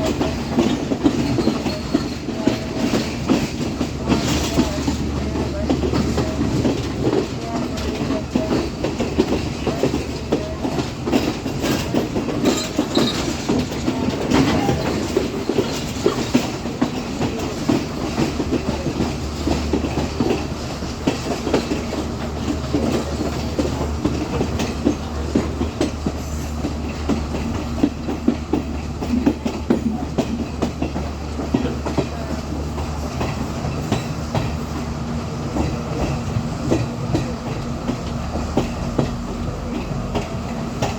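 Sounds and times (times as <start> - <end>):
wheels clicking over rails: 0.0 - 40.9.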